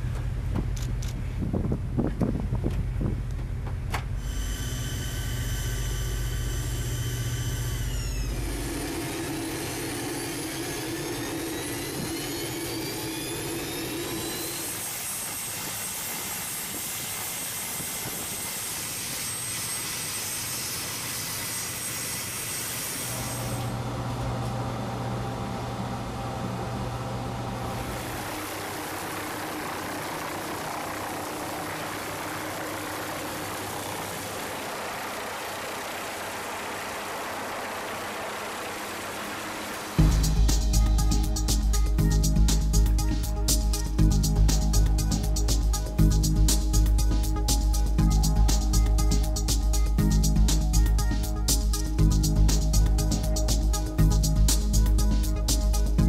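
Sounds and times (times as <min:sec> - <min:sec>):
helicopter turbine whine: 0:04.1 - 0:24.0, 0:24.6 - 0:56.0
helicopter rotor noise: 0:04.2 - 0:23.0, 0:27.8 - 0:56.0.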